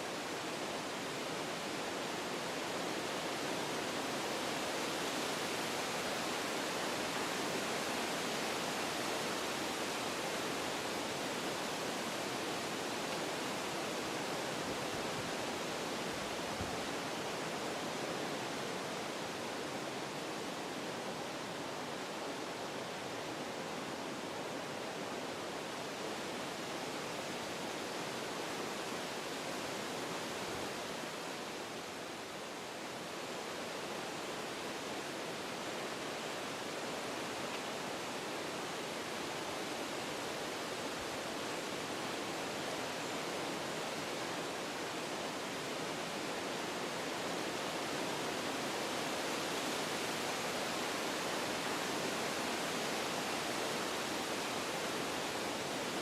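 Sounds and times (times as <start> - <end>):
wind rushing through trees: 0.0 - 56.0.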